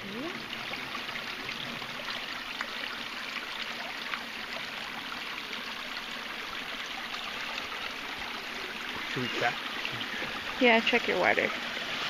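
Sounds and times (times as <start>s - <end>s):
brook running over rocks: 0.0s - 12.0s.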